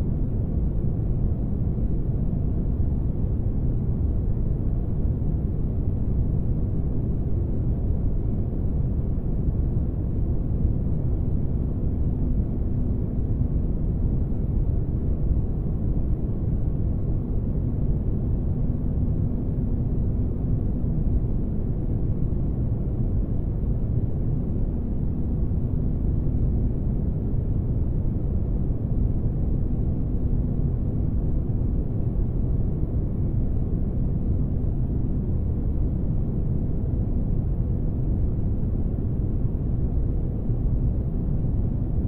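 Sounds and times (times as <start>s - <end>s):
faint hum: 0.0s - 42.0s.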